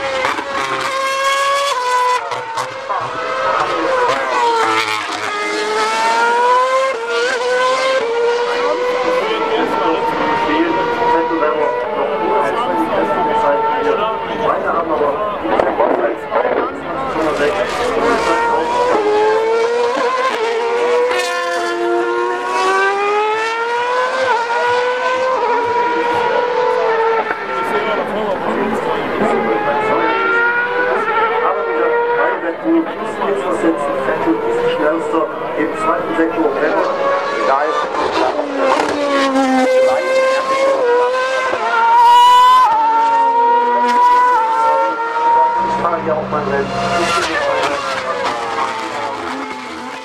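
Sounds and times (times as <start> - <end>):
racing car engines: 0.0 - 50.0.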